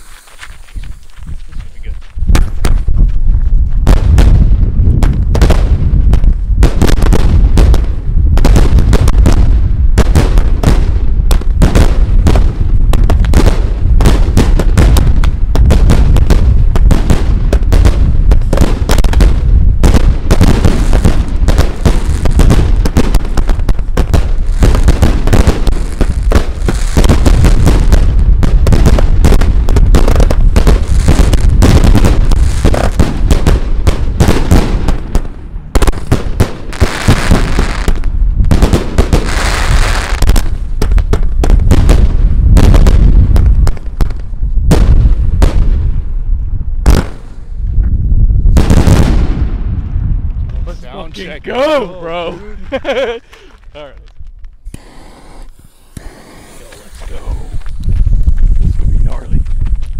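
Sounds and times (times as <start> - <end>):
fireworks launching and bursting: 0.0 - 59.9.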